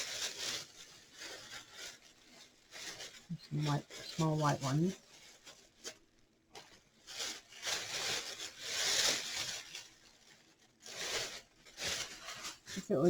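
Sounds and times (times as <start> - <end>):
rustling of craft flowers: 0.0 - 13.0.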